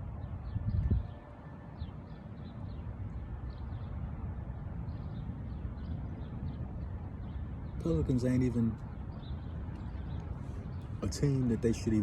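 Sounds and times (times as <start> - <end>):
small birds chirping: 1.8 - 4.2, 4.8 - 12.0.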